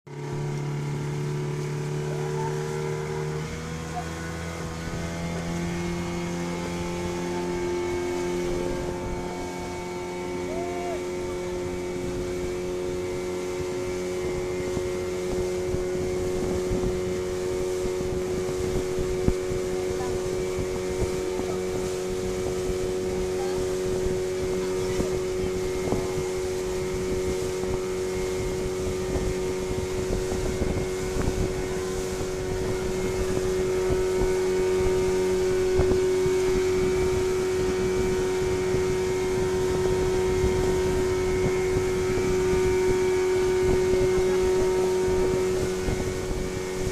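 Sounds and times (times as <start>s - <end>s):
boat engine running: 0.1s - 46.9s
wind buffeting microphone: 0.2s - 46.9s.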